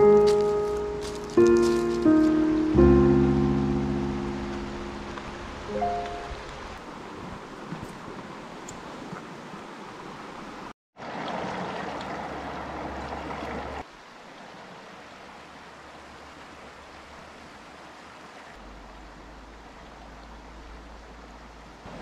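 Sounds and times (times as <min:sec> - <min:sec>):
creek water flowing over rocks: 0:00.0 - 0:22.0.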